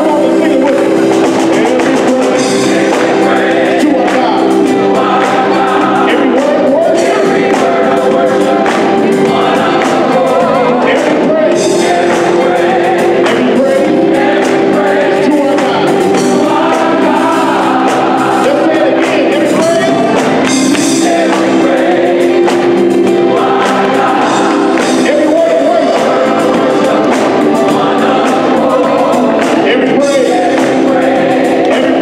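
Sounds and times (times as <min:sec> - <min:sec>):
gospel choir singing: 0:00.0 - 0:32.0
live band with bass and drums: 0:00.0 - 0:32.0.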